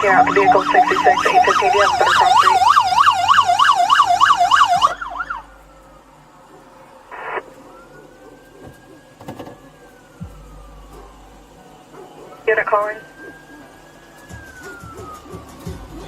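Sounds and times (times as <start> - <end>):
police siren yelp: 0.0 - 16.0.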